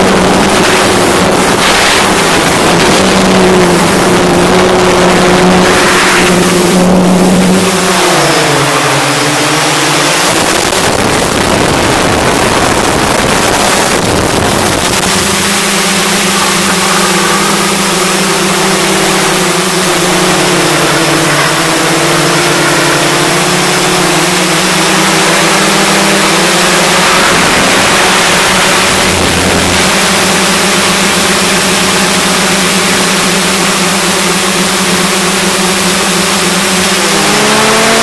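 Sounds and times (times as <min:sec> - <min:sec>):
drone motors and propellers whirring: 0:00.0 - 0:38.0.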